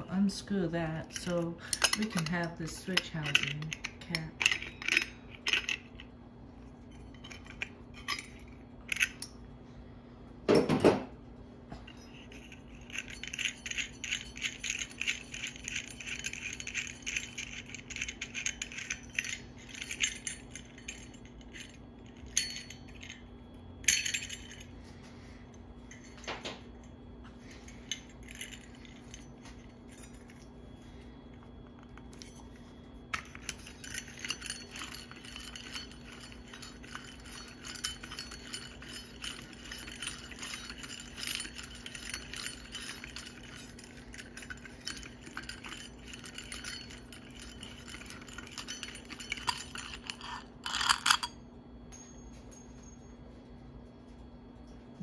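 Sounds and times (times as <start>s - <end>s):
metal parts clinking and rattling: 0.0s - 6.1s, 6.7s - 9.4s, 11.9s - 24.9s, 25.9s - 30.6s, 31.4s - 53.0s
faint low hum: 0.0s - 55.0s.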